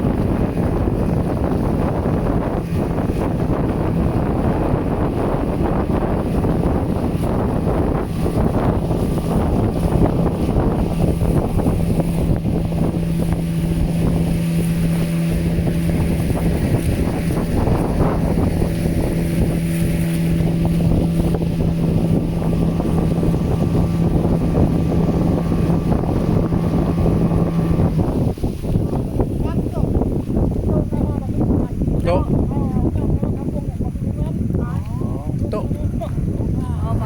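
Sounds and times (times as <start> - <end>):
motorboat engine running: 0.0 - 37.0
wind buffeting microphone: 0.0 - 37.0.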